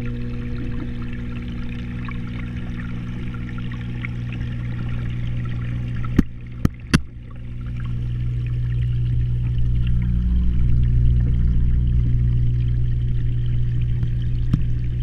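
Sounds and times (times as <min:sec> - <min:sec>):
aquarium pump hum and water rush: 0:00.0 - 0:15.0.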